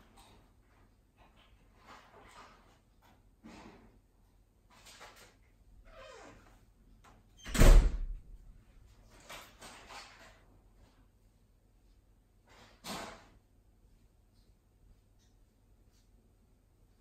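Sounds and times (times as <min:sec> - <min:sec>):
rustling and scraping: 0:00.0 - 0:05.7, 0:08.5 - 0:17.0.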